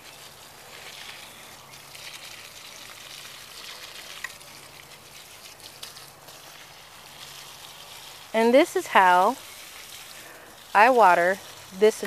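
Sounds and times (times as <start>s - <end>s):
hose spray hissing on plants: 0.0s - 12.0s.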